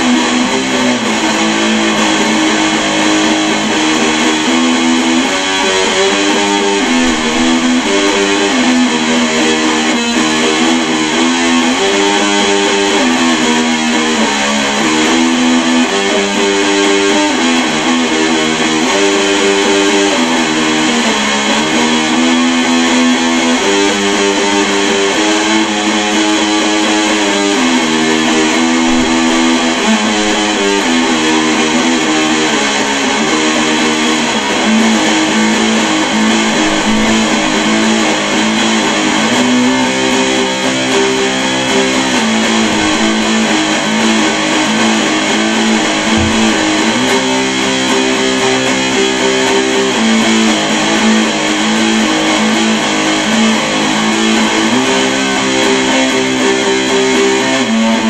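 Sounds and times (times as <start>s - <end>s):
electric guitars playing metal chords: 0.0s - 58.0s.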